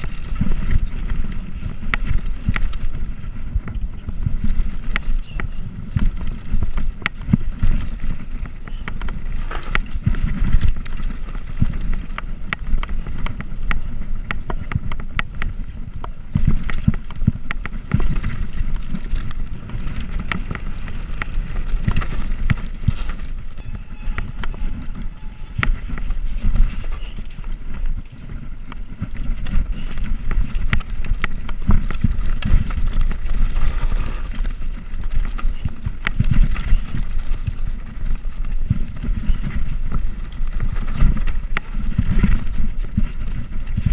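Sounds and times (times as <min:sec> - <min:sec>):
bicycle tyres on road: 0:00.0 - 0:43.9
bike clicks and rattles: 0:00.0 - 0:43.9
wind buffeting the microphone: 0:00.0 - 0:43.9.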